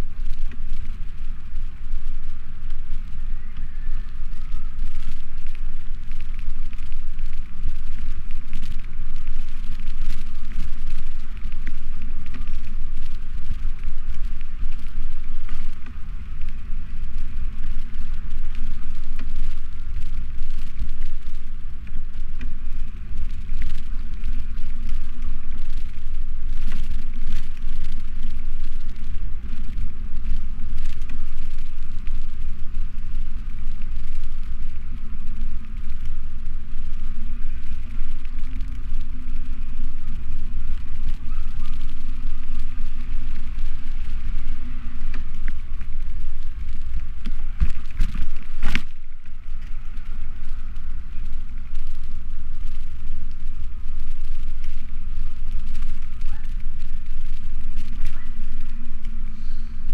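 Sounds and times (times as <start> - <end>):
bicycle riding noise: 0.0 - 59.9
faint ticks and clicks: 0.0 - 59.9
wind noise on microphone: 0.0 - 59.9.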